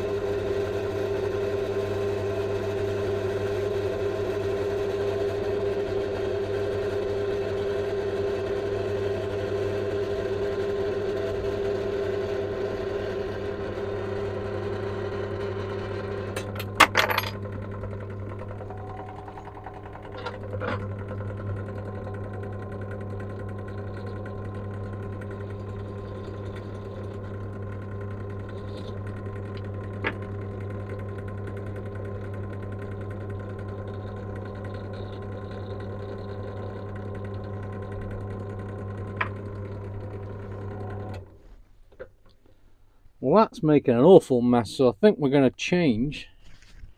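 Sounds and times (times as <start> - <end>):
drill motor running: 0.0 - 41.4.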